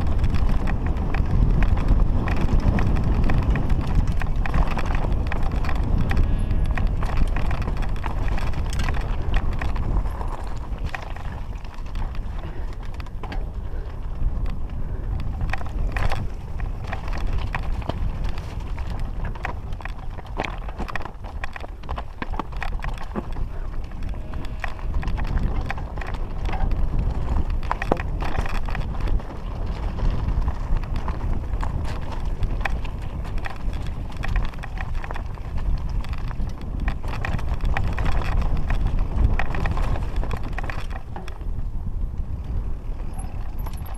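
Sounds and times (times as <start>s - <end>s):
bike rattling and clattering: 0.0s - 43.9s
bike tyres rolling over stones: 0.0s - 43.9s
constant low rumble: 0.0s - 43.9s.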